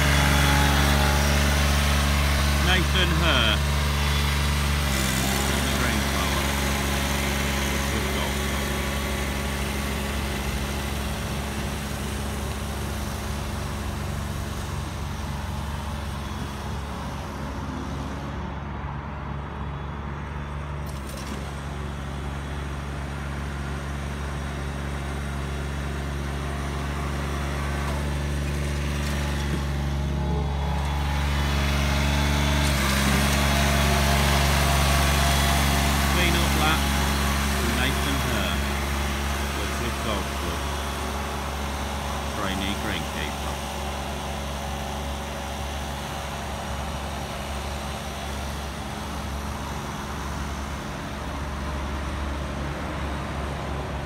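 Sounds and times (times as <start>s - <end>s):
ride-on mower engine: 0.0s - 54.0s.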